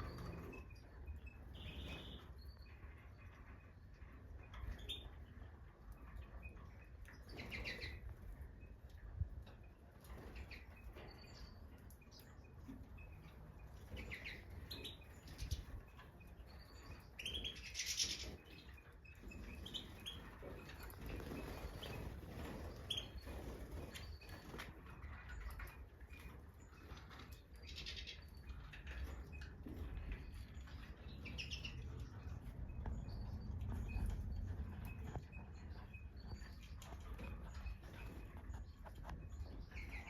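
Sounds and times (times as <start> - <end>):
finches chirping: 0.0 - 5.5, 6.4 - 9.2, 10.0 - 40.0.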